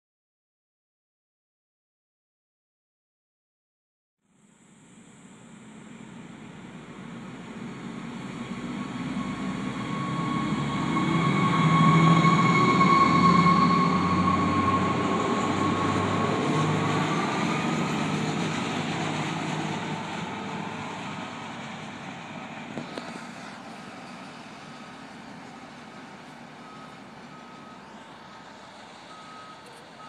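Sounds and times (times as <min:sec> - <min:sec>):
train high whine: 0:04.4 - 0:30.0
train engine rumbling: 0:05.4 - 0:30.0.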